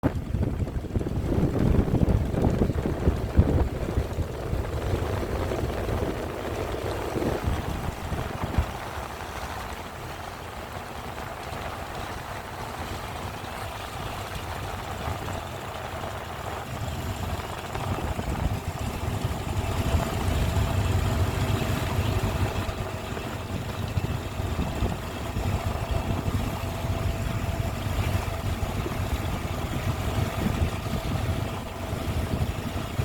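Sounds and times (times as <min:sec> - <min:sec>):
boat engine rumbling: 0:00.0 - 0:33.0.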